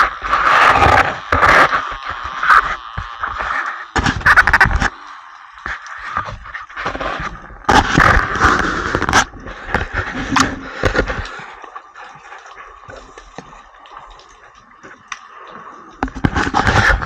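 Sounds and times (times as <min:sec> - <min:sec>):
sharp underwater clicks: 0:00.0 - 0:17.0
underwater rushing and crackling: 0:00.0 - 0:17.0.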